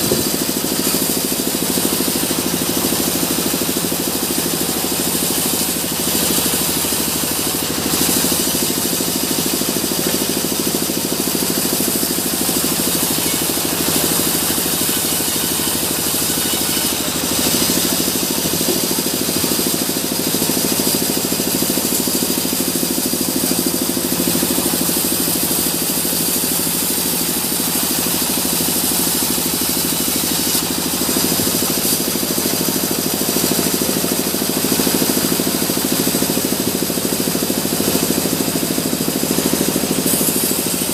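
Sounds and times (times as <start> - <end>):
bandsaw sawing logs: 0.0 - 40.9.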